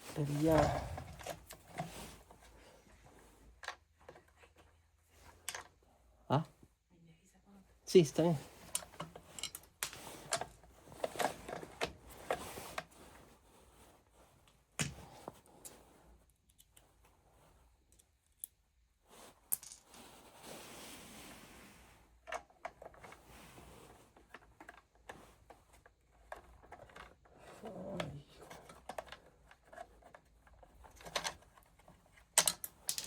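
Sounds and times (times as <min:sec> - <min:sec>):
hands and tools clicking and scraping: 0:00.0 - 0:05.9, 0:08.5 - 0:20.4, 0:22.1 - 0:33.0.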